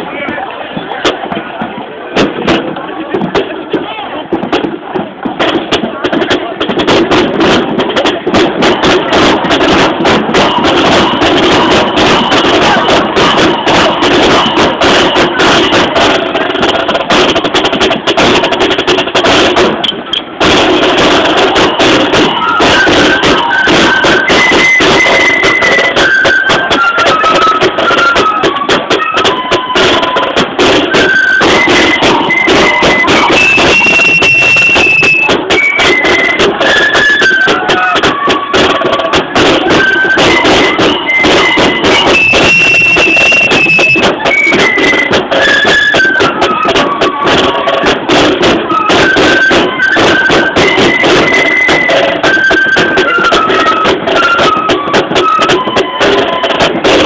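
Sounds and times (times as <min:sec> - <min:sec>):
bass drum beating time: 0:00.0 - 0:57.0
flutes playing a marching tune: 0:00.0 - 0:57.0
snare drums: 0:00.0 - 0:57.0.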